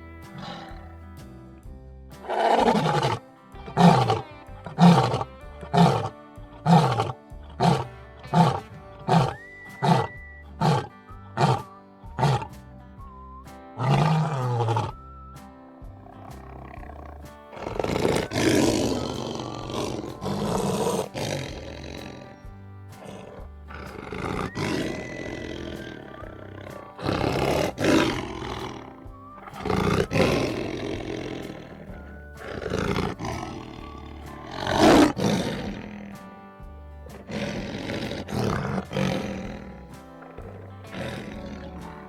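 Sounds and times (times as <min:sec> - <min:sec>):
lions roaring and grunting: 0:00.0 - 0:01.1, 0:02.2 - 0:15.2, 0:16.0 - 0:36.4, 0:37.0 - 0:42.0
background music: 0:00.0 - 0:42.0.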